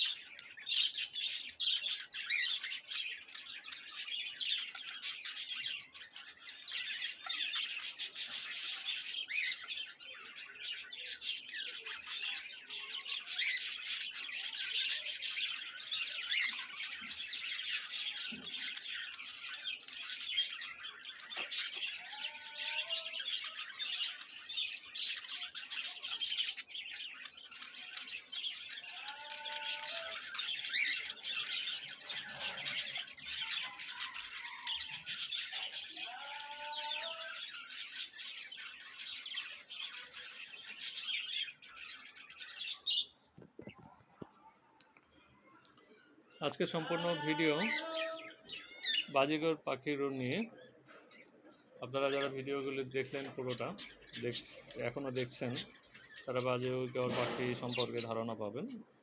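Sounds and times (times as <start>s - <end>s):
budgerigars chattering and squawking: 0.0s - 43.9s, 46.3s - 59.0s.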